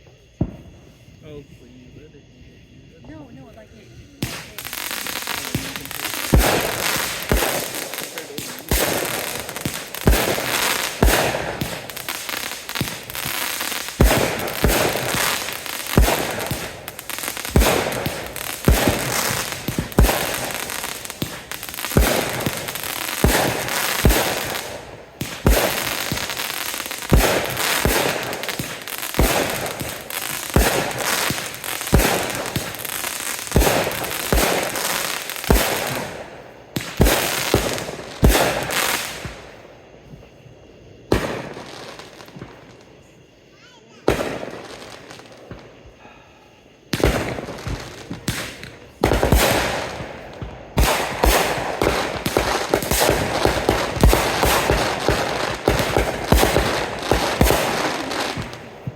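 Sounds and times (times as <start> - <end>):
fireworks bangs: 0.0 - 58.9
fireworks crackling: 0.0 - 58.9.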